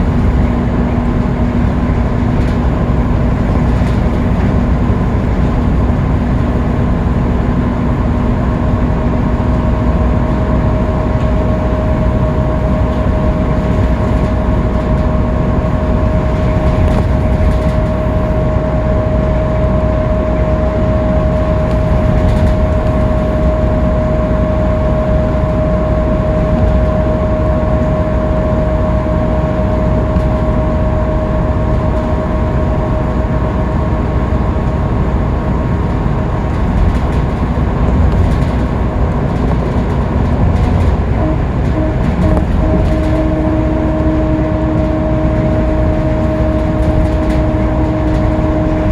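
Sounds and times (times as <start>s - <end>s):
bus engine and road drone: 0.0s - 48.9s
steady high whine: 0.0s - 48.9s.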